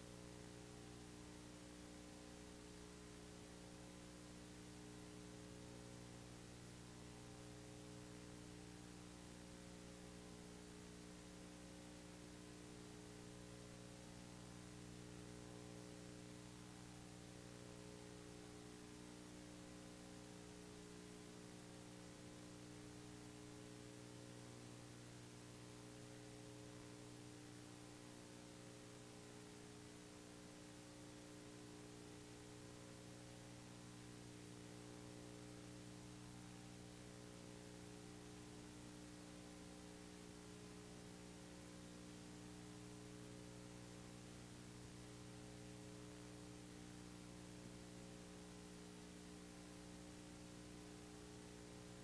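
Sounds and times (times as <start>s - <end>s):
faint electrical hum with hiss: 0.0s - 52.0s.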